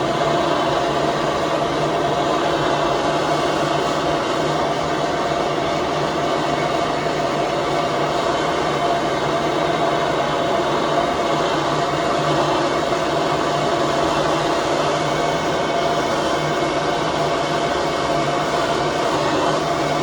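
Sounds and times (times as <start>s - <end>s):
gas torch flame roaring: 0.0s - 20.0s.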